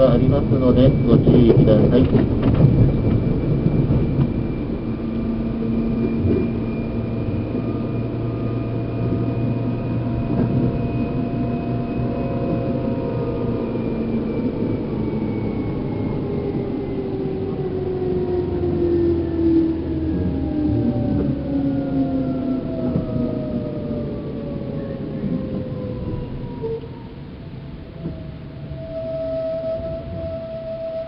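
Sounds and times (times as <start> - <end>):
traction motor whine: 0.0 - 31.0
train wheels rumbling on rail: 0.0 - 31.0.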